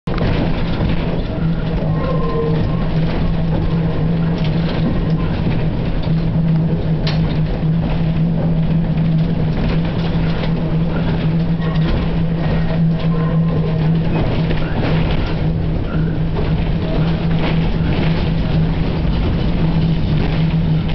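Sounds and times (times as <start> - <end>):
wheels rumbling on rails: 0.0 - 20.9
clicks and rattles from tram body: 0.1 - 20.9
tram motor hum: 0.1 - 20.9.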